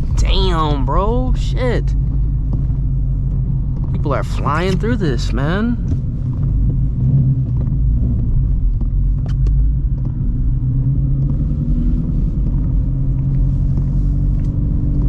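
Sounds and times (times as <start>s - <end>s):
deep exhaust rumble: 0.0s - 15.0s.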